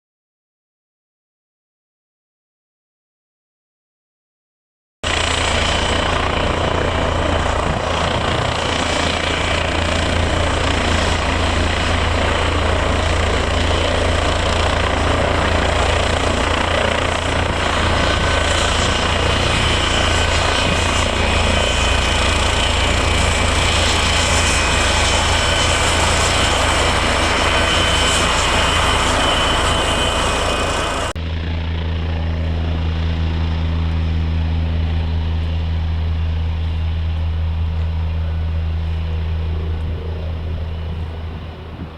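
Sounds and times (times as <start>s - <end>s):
helicopter rotor drone: 5.0s - 41.9s
turbine and blade rush: 5.1s - 41.9s.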